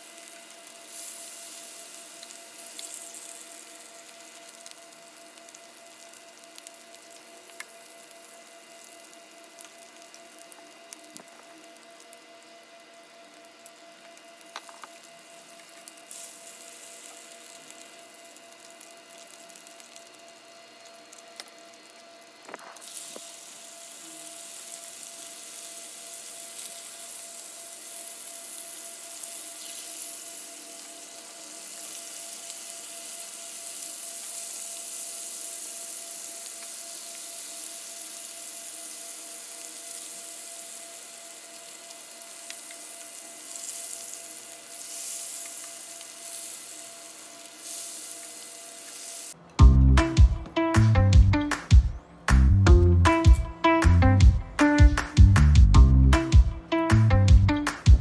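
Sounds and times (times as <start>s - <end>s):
bacon sizzling in a frying pan: 0.0s - 49.4s.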